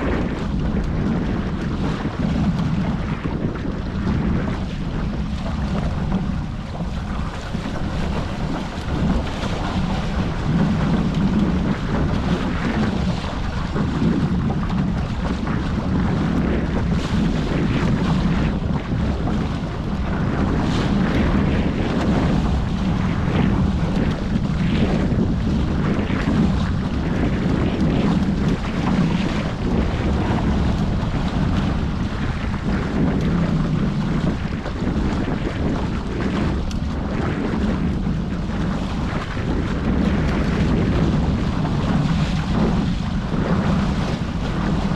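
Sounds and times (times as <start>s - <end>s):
water splashing against hulls: 0.0s - 44.9s
wind buffeting microphone: 0.0s - 44.9s.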